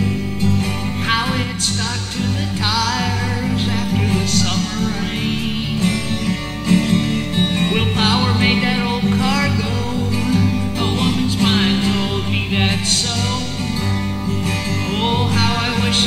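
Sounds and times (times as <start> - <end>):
acoustic guitar: 0.0 - 16.0
person singing: 0.0 - 16.0.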